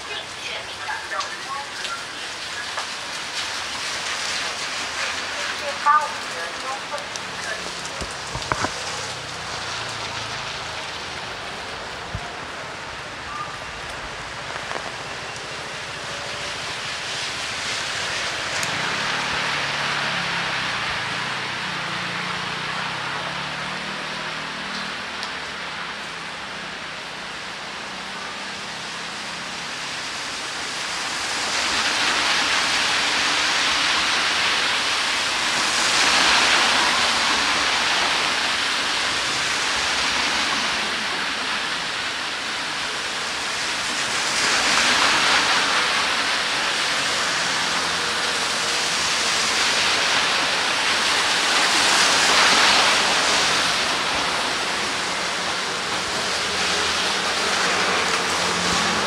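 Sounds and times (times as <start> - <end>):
steady rain: 0.0 - 59.0
tyres hissing on wet street: 0.0 - 59.0.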